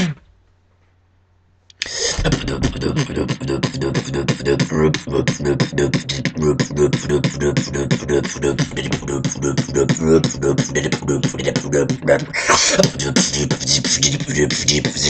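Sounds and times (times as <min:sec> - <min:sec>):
person beatboxing: 0:00.0 - 0:00.2, 0:01.7 - 0:15.0.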